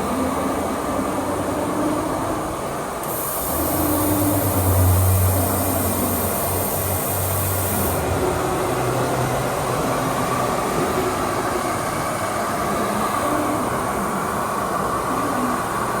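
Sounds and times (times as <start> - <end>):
industrial machinery running: 0.0 - 16.0.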